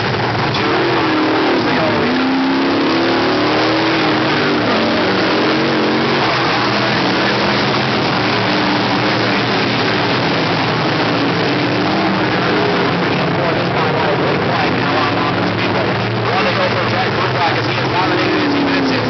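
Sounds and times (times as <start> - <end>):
race car engines roaring: 0.0 - 19.0.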